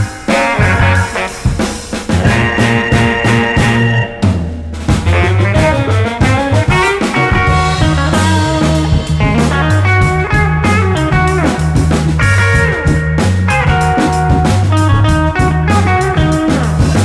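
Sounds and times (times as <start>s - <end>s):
drum kit beat: 0.0s - 17.0s
electric guitar: 0.0s - 17.0s
stepping bass line: 0.0s - 17.0s.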